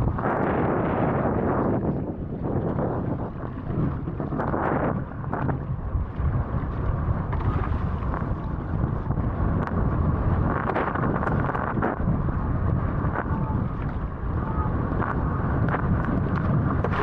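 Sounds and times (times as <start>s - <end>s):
rush of air and water: 0.0s - 17.0s
wind buffeting microphone: 0.0s - 17.0s.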